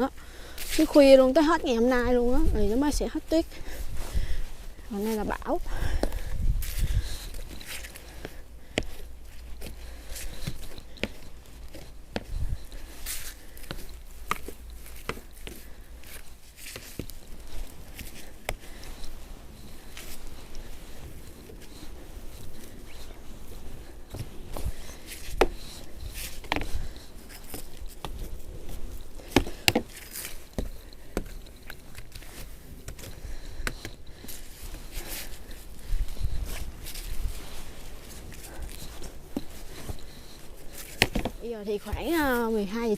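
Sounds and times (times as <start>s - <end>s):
knocks and crunches of snow: 0.0s - 42.9s.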